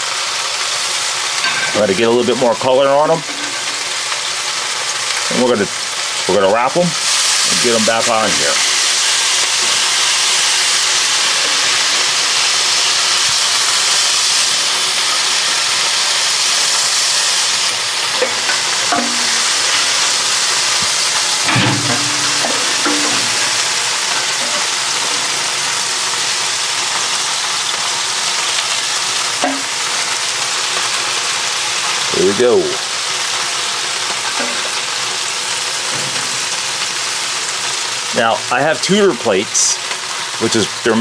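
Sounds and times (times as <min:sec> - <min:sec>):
meat sizzling on a grill: 0:00.0 - 0:41.0.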